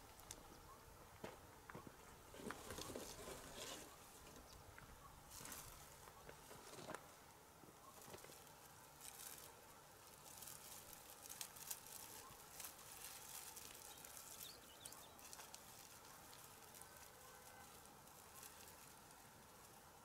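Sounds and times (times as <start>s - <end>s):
leafy branches rustling: 0.0s - 20.0s.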